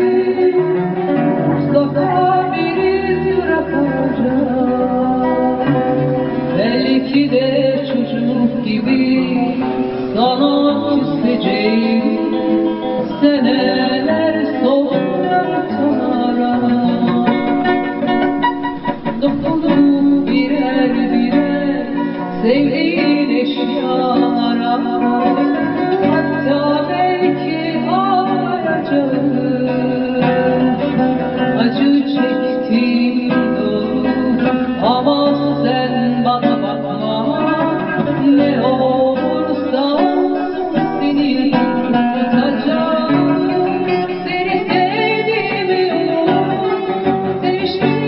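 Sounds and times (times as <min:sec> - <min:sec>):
person singing: 0:00.0 - 0:48.0
plucked lute melody: 0:00.0 - 0:48.0.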